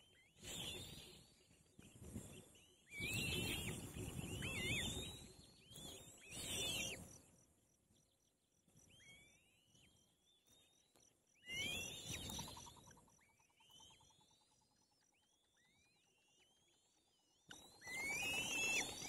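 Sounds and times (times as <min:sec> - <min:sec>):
bird chicks whistling calls: 0:00.0 - 0:01.4, 0:02.0 - 0:07.2, 0:08.9 - 0:19.0.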